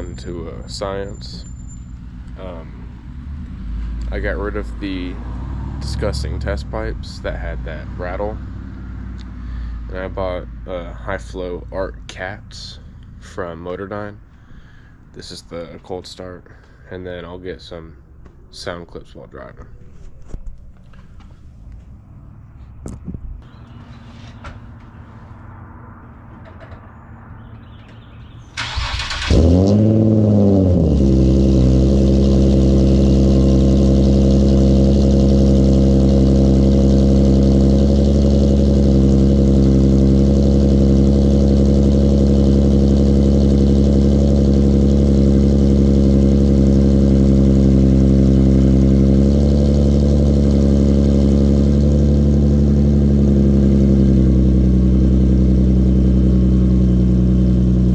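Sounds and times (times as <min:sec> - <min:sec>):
car engine revving and idling: 0:00.0 - 0:18.4, 0:20.8 - 0:57.9.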